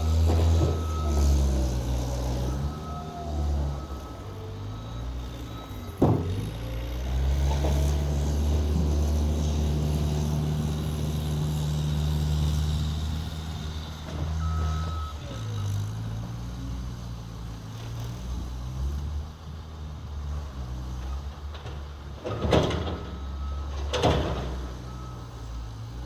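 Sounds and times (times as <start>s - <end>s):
skid steer engine running: 0.0s - 26.0s.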